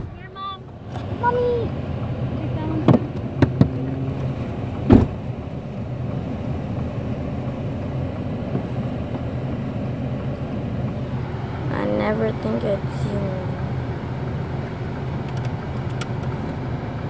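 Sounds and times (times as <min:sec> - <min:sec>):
car engine hum inside cabin: 0:00.0 - 0:17.0.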